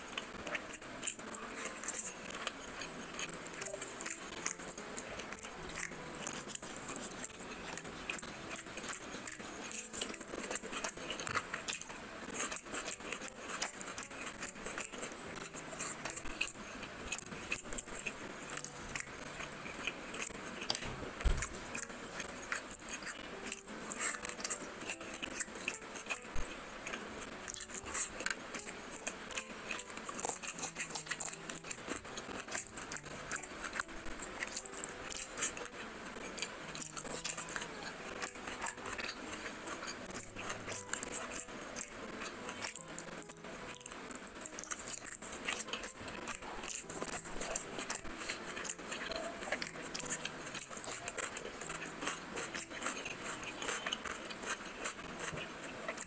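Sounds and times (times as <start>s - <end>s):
chewing and eating: 0.0s - 56.0s.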